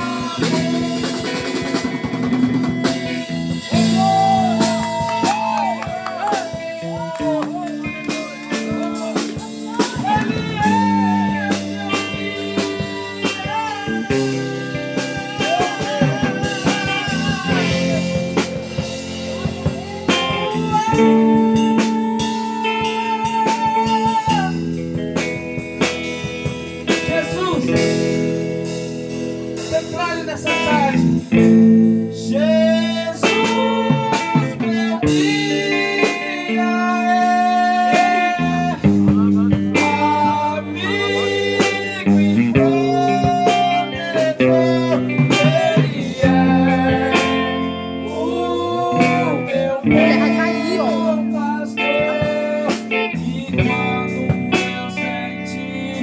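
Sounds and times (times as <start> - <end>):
person singing: 0.0 - 2.3, 3.1 - 24.6, 32.2 - 56.0
blues-rock band playing: 0.0 - 56.0.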